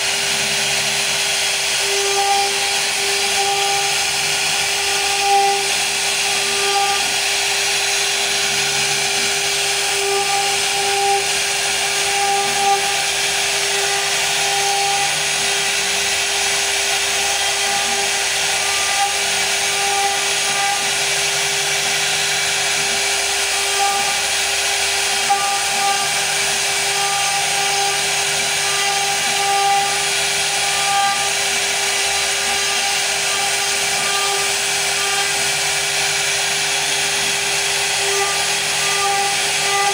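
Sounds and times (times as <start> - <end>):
rasping hiss of cutting wood: 0.0 - 39.9
router spindle whine: 0.0 - 39.9.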